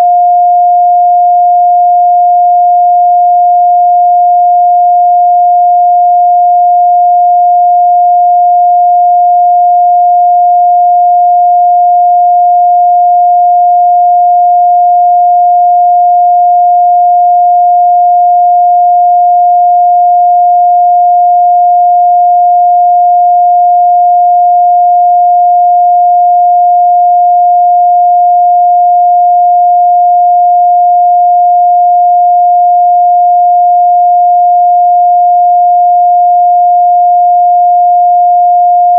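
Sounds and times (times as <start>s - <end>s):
sine wave test tone: 0.0s - 38.9s.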